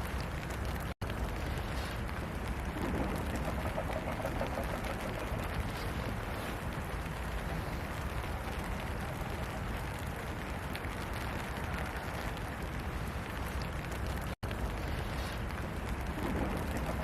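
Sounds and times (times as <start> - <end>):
rain drop ticks: 0.0 - 17.0
steady rain hiss: 0.0 - 17.0.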